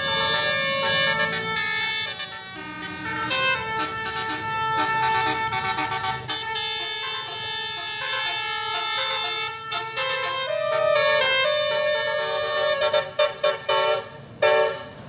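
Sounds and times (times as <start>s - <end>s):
multi-tone horn playing a tune: 0.0s - 14.9s.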